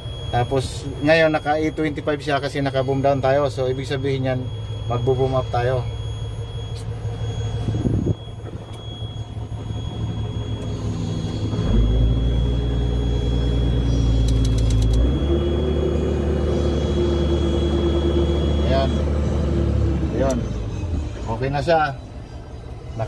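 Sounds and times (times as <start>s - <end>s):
diesel engine running under load: 0.0s - 23.0s.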